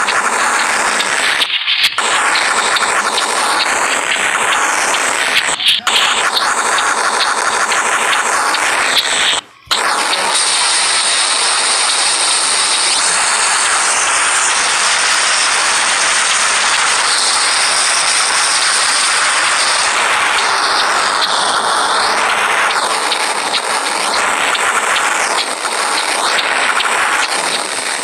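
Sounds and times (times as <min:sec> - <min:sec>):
loud steady rushing hiss: 0:00.0 - 0:28.0.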